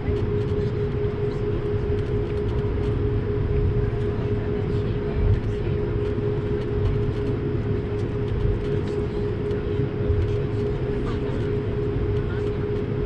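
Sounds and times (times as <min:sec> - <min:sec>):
airliner cabin engine rumble: 0:00.0 - 0:13.0
mid-pitched hum: 0:00.0 - 0:13.0.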